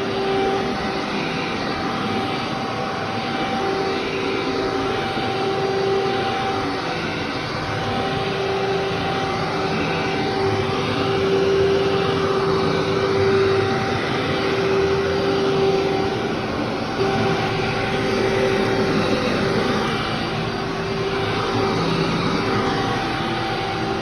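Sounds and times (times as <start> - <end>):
vacuum cleaner running on carpet: 0.0 - 24.0.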